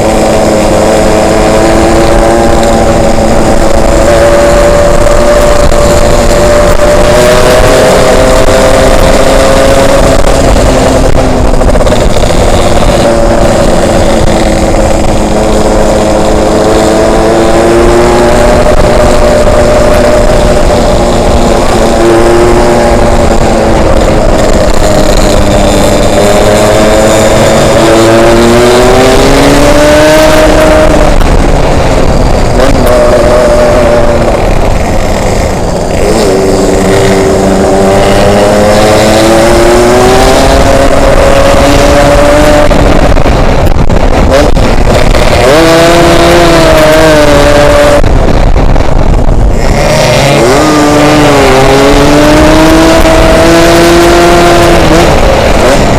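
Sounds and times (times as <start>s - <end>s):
motorcycle engine accelerating: 0.0s - 55.9s
wind rush on microphone: 0.0s - 55.9s.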